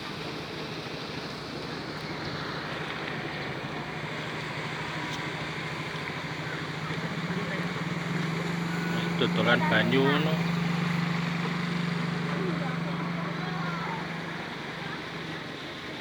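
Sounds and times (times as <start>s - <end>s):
motor engine humming: 1.2s - 16.0s.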